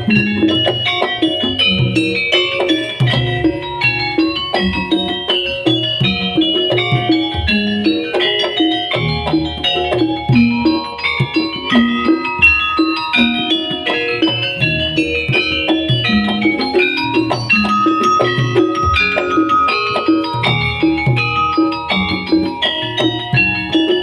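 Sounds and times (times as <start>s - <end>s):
quick melodic notes: 0.0s - 24.0s
steady low drum beat: 0.0s - 24.0s.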